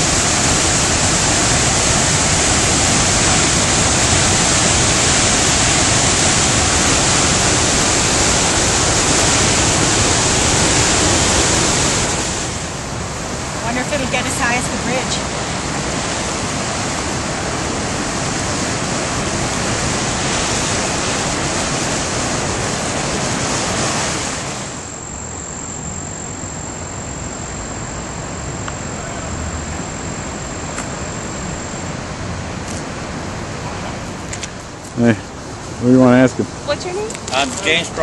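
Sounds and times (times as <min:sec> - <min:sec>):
river water rushing: 0:00.0 - 0:34.8
thin high whine: 0:00.0 - 0:38.0.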